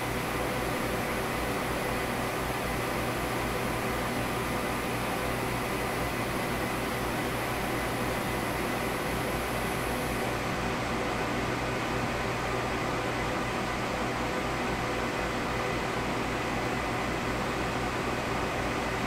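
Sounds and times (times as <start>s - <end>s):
cooling fans whirring: 0.0s - 19.0s.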